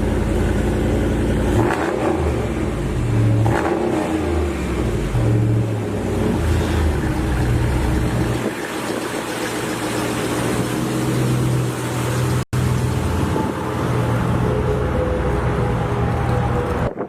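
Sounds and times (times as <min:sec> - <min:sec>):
vehicle engine running: 0:00.0 - 0:03.6, 0:04.2 - 0:16.9.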